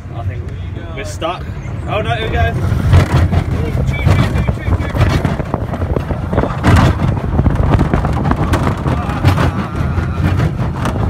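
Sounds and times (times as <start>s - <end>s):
roller coaster rumble: 0.0s - 11.0s
wheels clattering and rattling: 0.0s - 11.0s.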